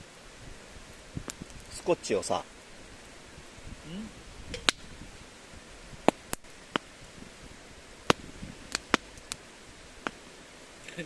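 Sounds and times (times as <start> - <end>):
campfire wood crackling: 0.0 - 11.0.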